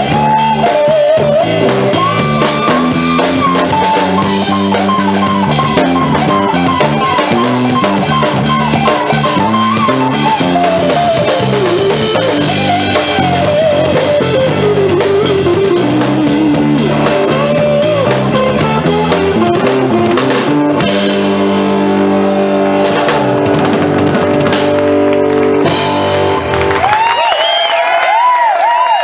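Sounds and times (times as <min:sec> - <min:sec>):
bass guitar: 0:00.0 - 0:27.7
electric lead guitar solo: 0:00.0 - 0:28.4
drums: 0:00.0 - 0:29.0.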